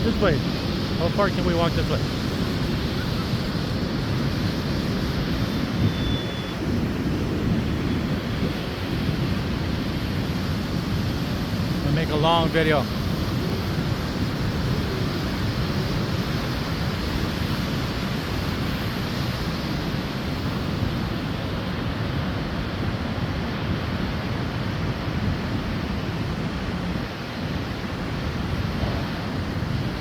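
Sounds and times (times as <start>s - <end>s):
surf on the shore: 0.0s - 30.0s
wind buffeting microphone: 0.0s - 30.0s.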